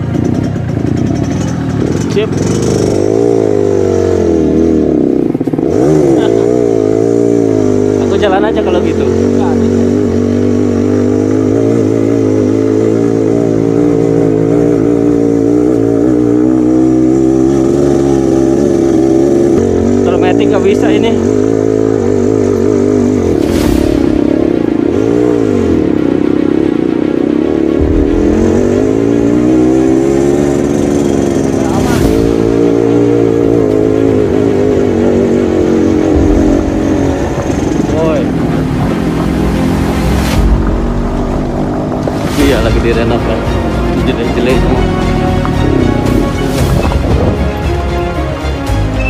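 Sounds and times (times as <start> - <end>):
motorcycle engine running: 0.0 - 49.0
road and wind rumble: 0.0 - 49.0.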